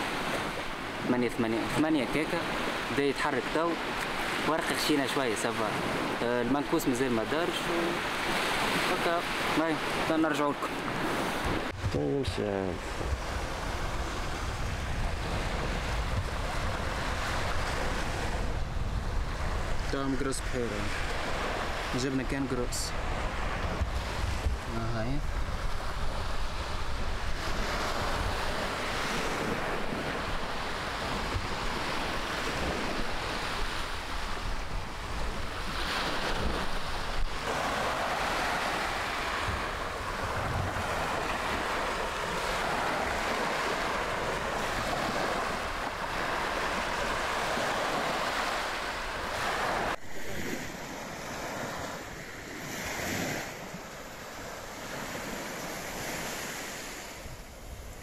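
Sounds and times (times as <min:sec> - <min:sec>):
surf breaking on beach: 0:00.0 - 0:58.0
wind buffeting microphone: 0:10.8 - 0:58.0.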